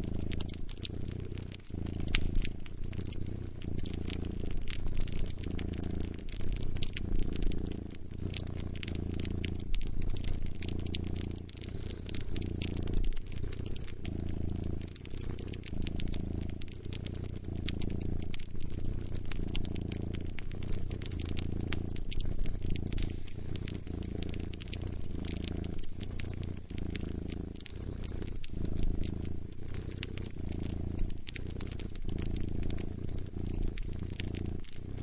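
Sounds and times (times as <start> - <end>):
cat purring: 0.0 - 35.0
wood fire crackling: 0.0 - 35.0.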